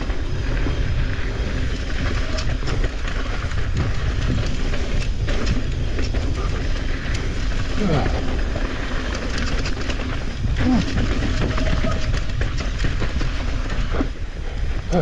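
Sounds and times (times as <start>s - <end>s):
bike rattling and clacking: 0.0s - 15.0s
bike tyres rumbling on dirt: 0.0s - 15.0s.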